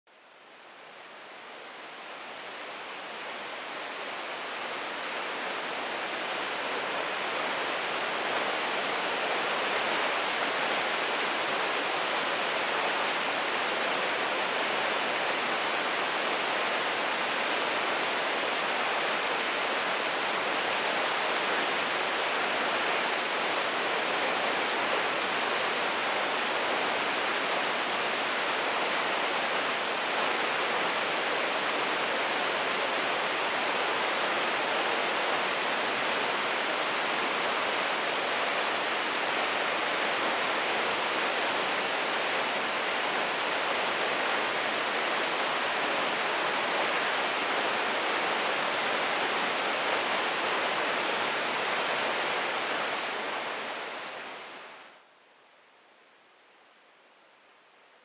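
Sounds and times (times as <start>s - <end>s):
waterfall rushing: 0.6s - 54.8s.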